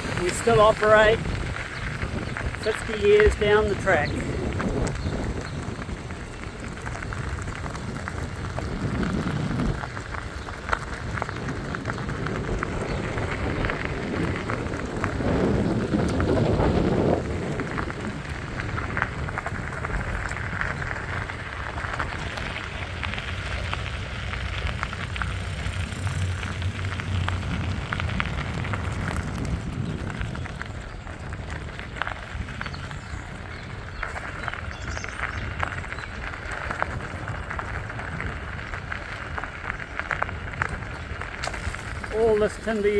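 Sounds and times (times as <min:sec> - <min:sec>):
vehicle tyre and road noise: 0:00.0 - 0:42.9.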